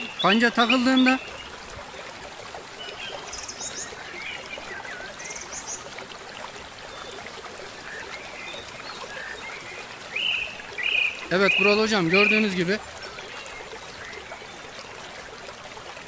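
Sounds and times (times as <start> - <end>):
small birds chirping and trilling: 0.0 - 1.6, 2.7 - 6.0, 6.8 - 15.0
mountain stream burbling: 0.0 - 16.0.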